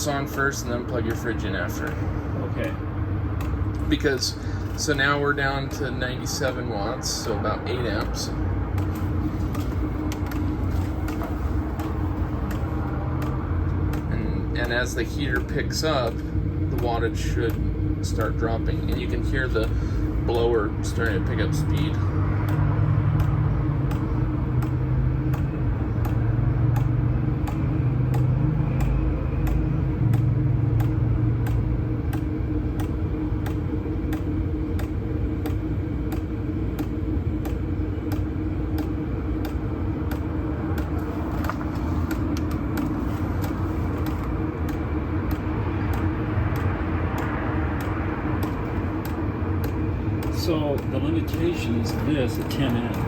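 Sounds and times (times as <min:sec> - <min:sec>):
deep low hum: 0:00.0 - 0:53.0
fuel pump clicking: 0:00.0 - 0:53.0
heater blower humming: 0:00.0 - 0:53.0.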